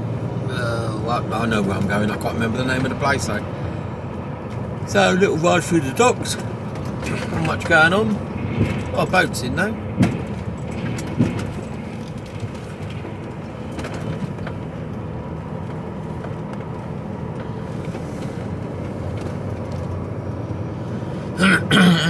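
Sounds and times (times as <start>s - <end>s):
truck engine and road drone: 0.0s - 22.0s.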